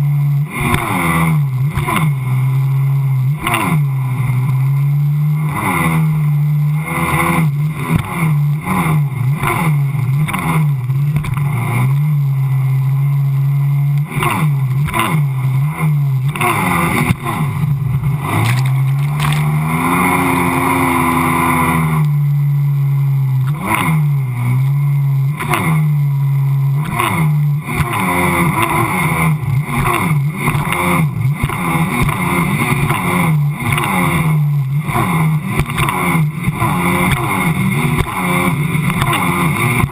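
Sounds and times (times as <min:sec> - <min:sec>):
watercraft engine at high revs: 0:00.0 - 0:39.9.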